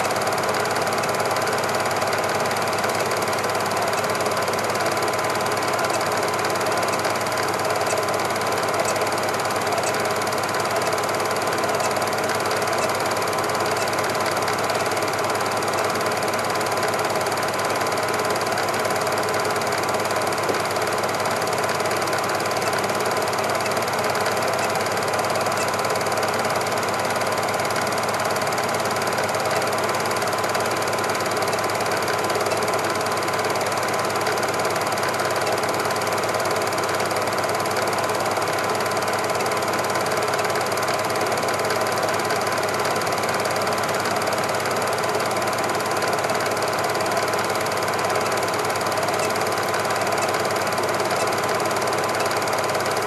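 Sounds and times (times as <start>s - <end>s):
film projector clattering: 0.0s - 53.0s.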